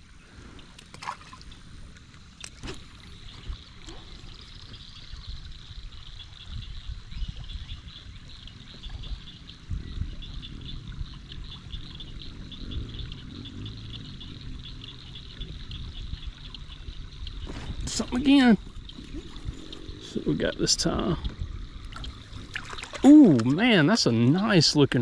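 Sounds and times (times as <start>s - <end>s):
water trickling and lapping: 0.0s - 25.0s.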